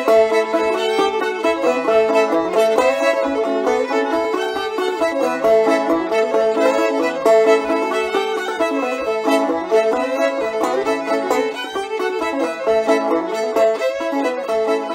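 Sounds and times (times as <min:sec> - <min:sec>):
banjo strummed rhythm: 0:00.0 - 0:14.9
bowed fiddle melody: 0:00.0 - 0:14.9.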